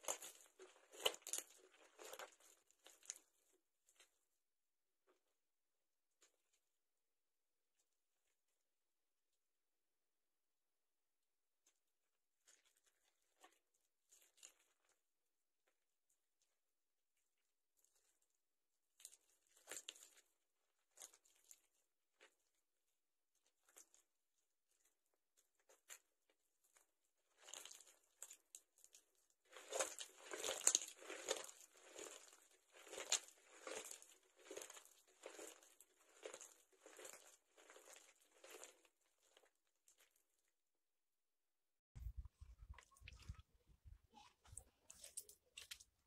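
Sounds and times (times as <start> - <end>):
soaked soap squishing by hand: 0.0 - 9.4, 11.3 - 41.1, 42.0 - 46.0.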